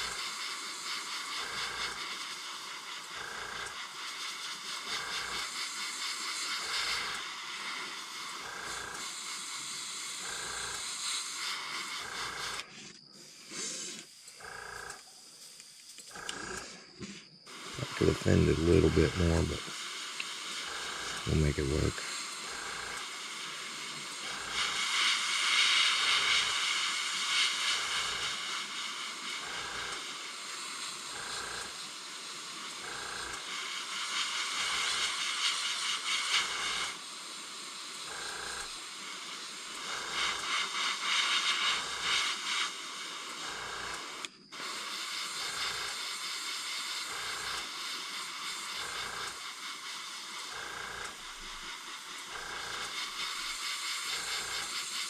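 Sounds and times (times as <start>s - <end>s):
airbrush hissing: 0.0s - 55.0s.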